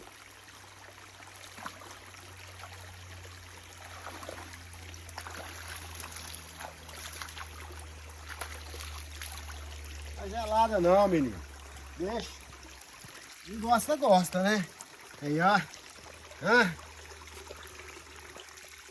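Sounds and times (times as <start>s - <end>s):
stream water trickling: 0.0s - 18.9s.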